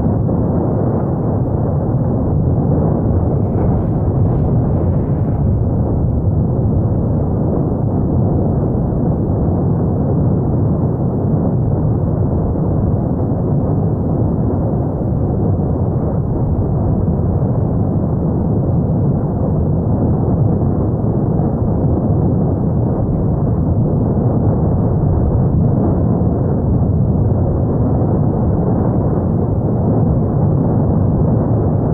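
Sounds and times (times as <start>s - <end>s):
volcano deep rumbling roar: 0.0s - 31.9s.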